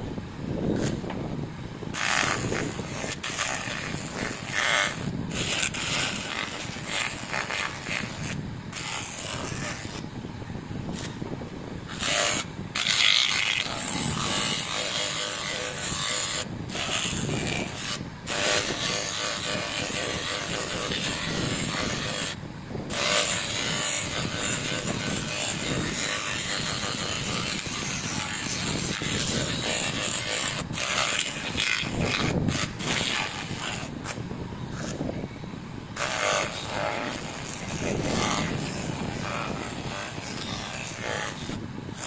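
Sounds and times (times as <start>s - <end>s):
abrasive rubbing on metal: 1.9s - 10.1s, 10.8s - 35.3s, 36.0s - 42.0s.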